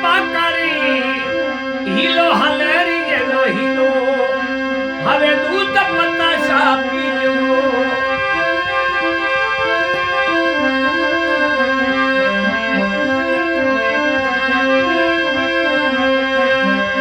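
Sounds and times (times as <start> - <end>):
steady held drone: 0.0 - 16.2
keyboard melody: 0.0 - 17.0.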